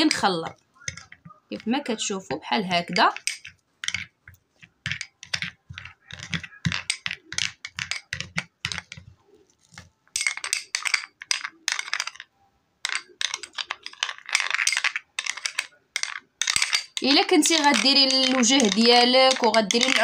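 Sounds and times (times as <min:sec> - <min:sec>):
metal spoon scraping bowl: 0:00.0 - 0:09.0, 0:12.9 - 0:20.0.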